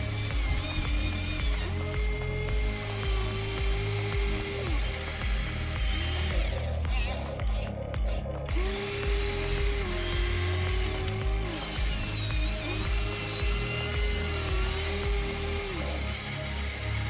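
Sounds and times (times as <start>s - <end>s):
background music with beat: 0.0s - 17.0s
hydraulic pump whining: 0.0s - 17.0s.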